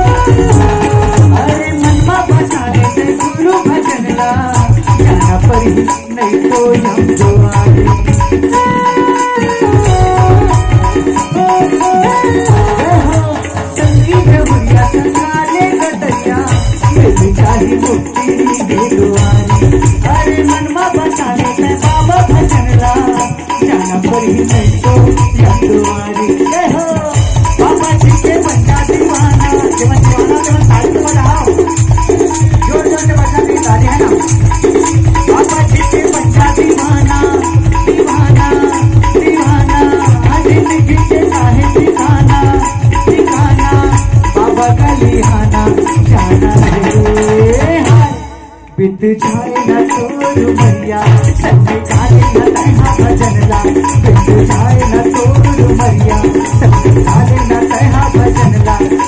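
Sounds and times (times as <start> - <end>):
dholak drum: 0.0 - 59.0
keyboard: 0.0 - 59.0
tabla: 0.0 - 59.0.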